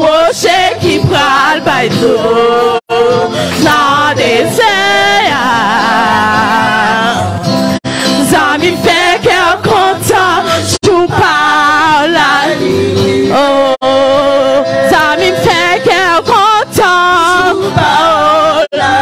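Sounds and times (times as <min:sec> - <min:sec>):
gospel song with singer: 0:00.0 - 0:19.0.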